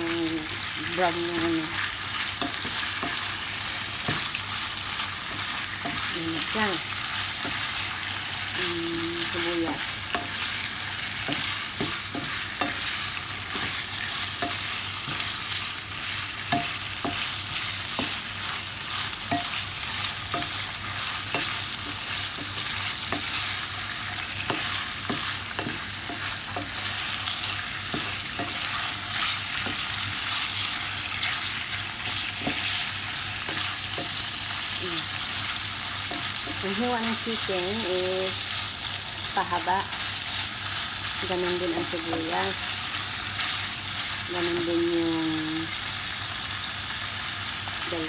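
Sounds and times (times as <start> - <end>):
utensil stirring and knocking pan: 0.0 - 45.0
chicken and onion sizzling in pan: 0.0 - 48.0.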